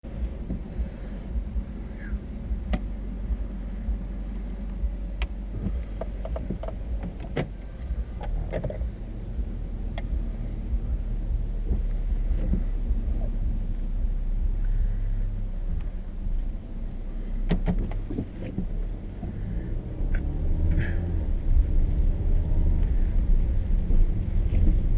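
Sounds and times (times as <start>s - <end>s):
car cabin rumble: 0.0s - 24.9s.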